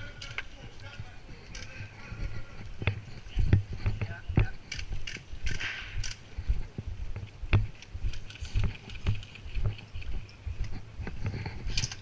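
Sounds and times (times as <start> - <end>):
carried gear rattling: 0.0 - 12.0
footsteps walking: 0.0 - 12.0.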